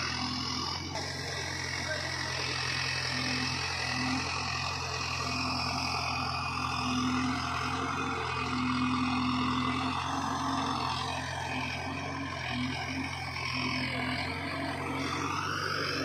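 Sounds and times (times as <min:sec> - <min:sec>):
diesel engines humming: 0:00.0 - 0:16.0.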